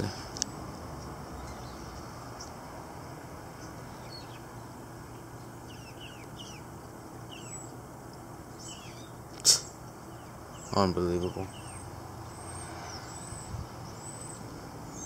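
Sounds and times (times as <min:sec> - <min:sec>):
steady wind: 0:00.0 - 0:15.0
high falling bird chirps: 0:01.3 - 0:15.0.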